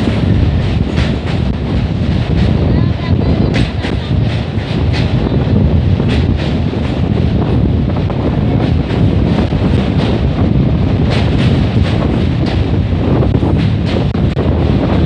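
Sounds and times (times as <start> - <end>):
train rumbling over bridge: 0.0 - 15.0
wind buffeting microphone: 0.0 - 15.0.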